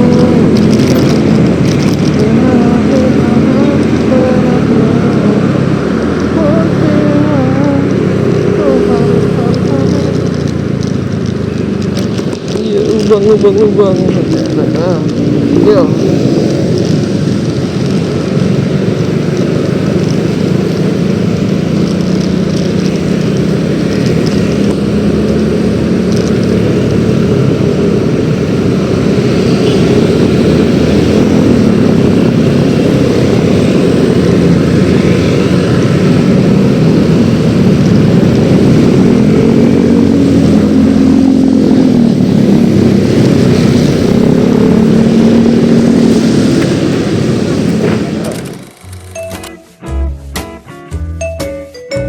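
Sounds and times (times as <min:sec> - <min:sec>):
scooter engine: 0:00.0 - 0:49.4
wind and road rumble: 0:00.0 - 0:49.8.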